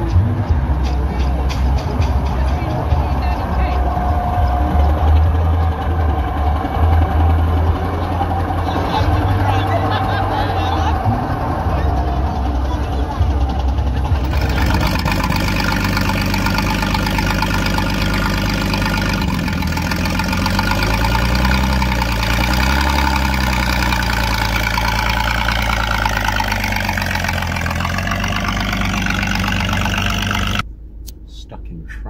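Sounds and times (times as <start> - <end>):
engine idling: 0.0 - 30.7.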